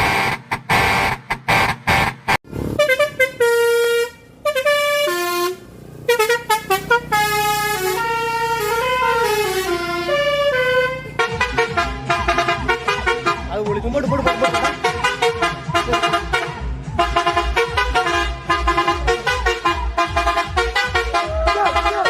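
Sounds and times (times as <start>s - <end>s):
musical truck air horn: 0.0s - 22.0s
rapid air horn blasts: 0.0s - 22.0s.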